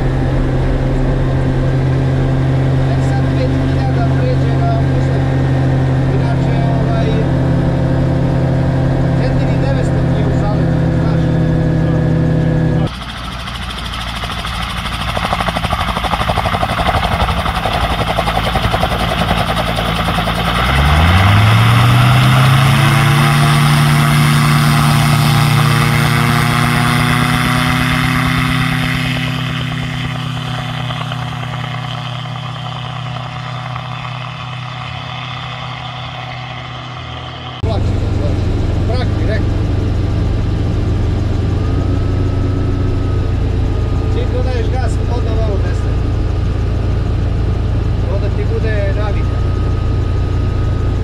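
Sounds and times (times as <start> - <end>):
steady rushing noise: 0.0 - 49.4
aircraft engine and propeller: 0.0 - 51.0.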